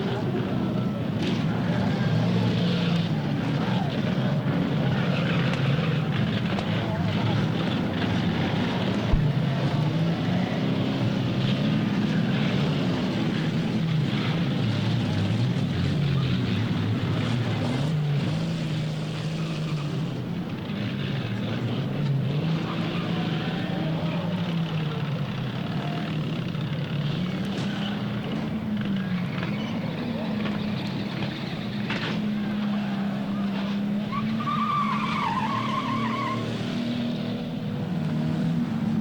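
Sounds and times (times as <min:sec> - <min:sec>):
engine and track noise: 0:00.0 - 0:39.0
race car engines revving: 0:00.0 - 0:39.0.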